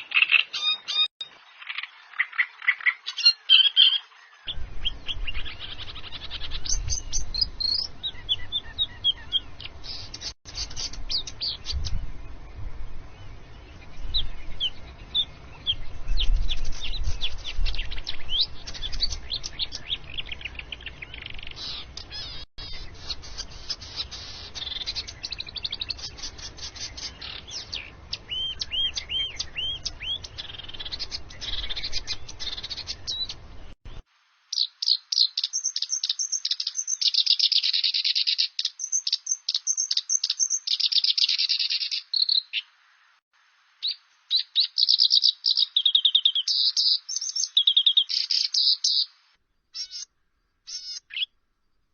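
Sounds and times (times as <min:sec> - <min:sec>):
songbirds chirping and singing: 0:00.0 - 0:34.0, 0:34.6 - 0:42.8, 0:43.8 - 0:49.1
low background noise: 0:04.4 - 0:37.6, 0:38.5 - 0:51.9.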